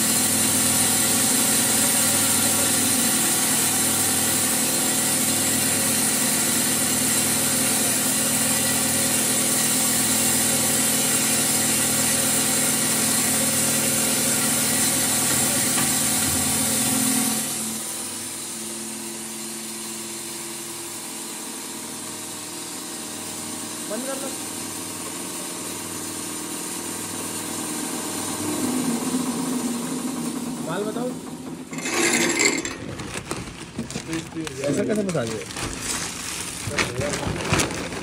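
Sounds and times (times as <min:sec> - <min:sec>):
grinder machine grinding wheat: 0:00.0 - 0:38.0.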